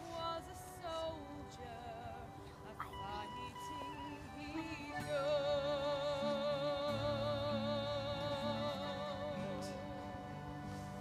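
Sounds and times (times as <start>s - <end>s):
low sustained instrumental notes: 0.0s - 11.0s.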